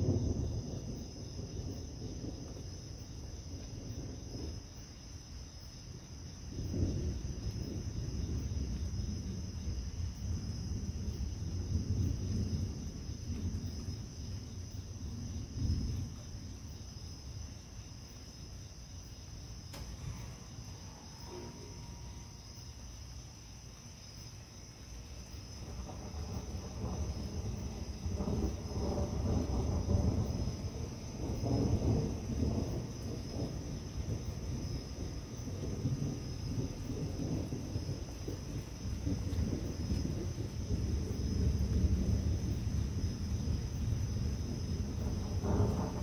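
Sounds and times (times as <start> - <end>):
crickets chirring: 0.0 - 46.0
rolling thunder: 0.0 - 46.0.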